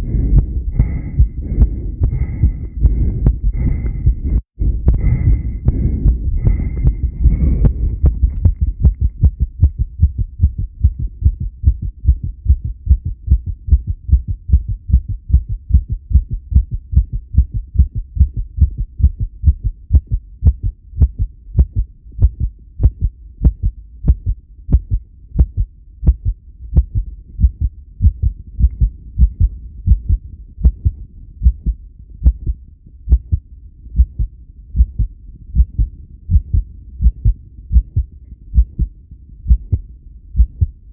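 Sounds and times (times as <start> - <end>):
heartbeat thumps: 0.0 - 40.8.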